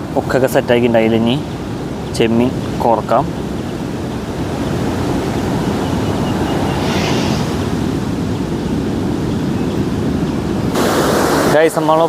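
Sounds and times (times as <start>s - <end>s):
surf: 0.0s - 12.0s
wind: 0.0s - 12.0s.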